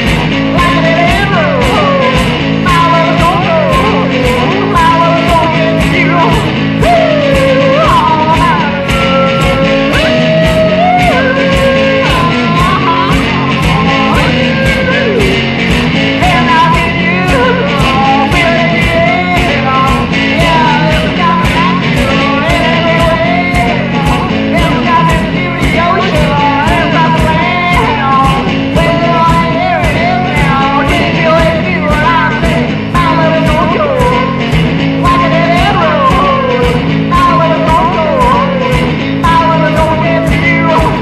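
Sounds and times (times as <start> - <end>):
electric guitar rock music: 0.0 - 41.0
steady drum beat: 0.0 - 41.0.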